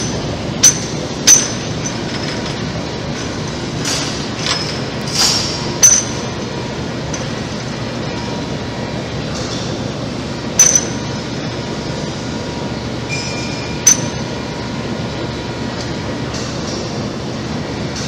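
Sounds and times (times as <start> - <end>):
machine shop running noise: 0.0 - 18.0.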